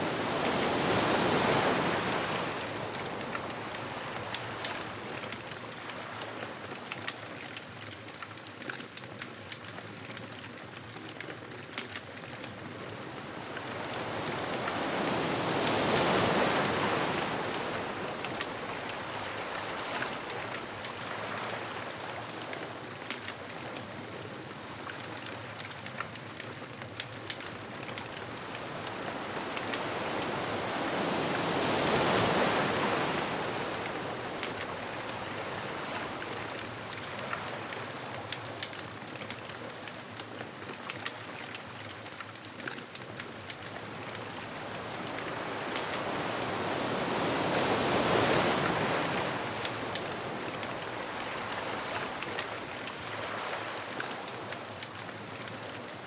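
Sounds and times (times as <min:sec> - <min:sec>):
ocean waves breaking on beach: 0:00.0 - 0:08.2, 0:11.5 - 0:56.0
bonfire crackling: 0:00.5 - 0:56.0.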